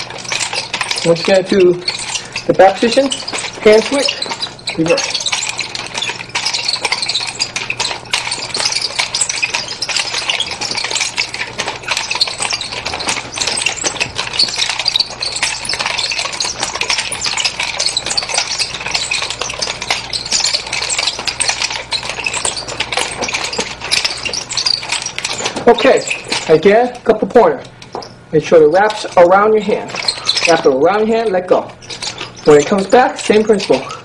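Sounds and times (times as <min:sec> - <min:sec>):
chain rattling and clinking: 0:00.0 - 0:34.0.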